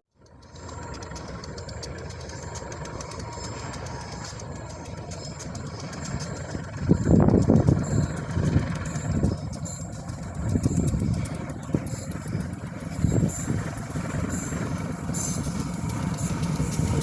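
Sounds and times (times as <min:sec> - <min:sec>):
road vehicles rumbling past: 0:00.1 - 0:17.0.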